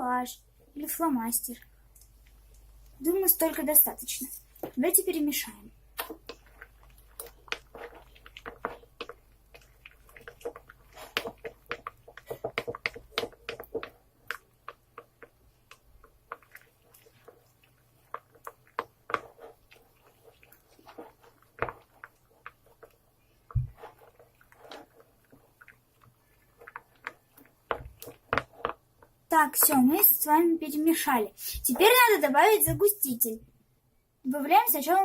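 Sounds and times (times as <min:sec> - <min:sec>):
wet squelches of stirring: 0:00.4 - 0:35.0.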